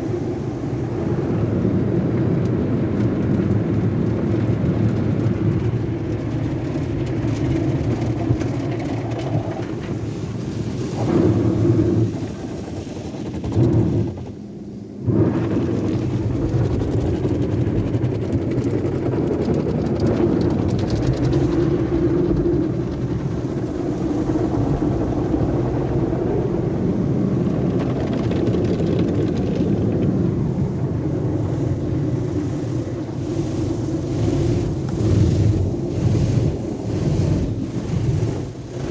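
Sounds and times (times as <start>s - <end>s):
car wash machinery running: 0.0s - 38.9s.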